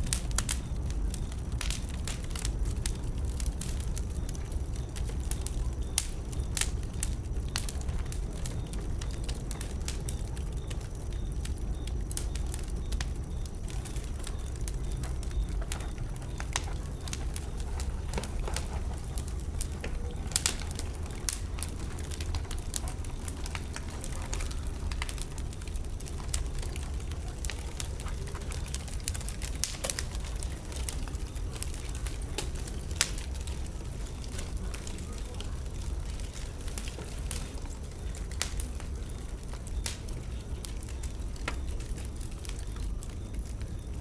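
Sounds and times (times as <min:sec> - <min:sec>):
bonfire crackling and popping: 0:00.0 - 0:44.0
low fire rumble: 0:00.0 - 0:44.0.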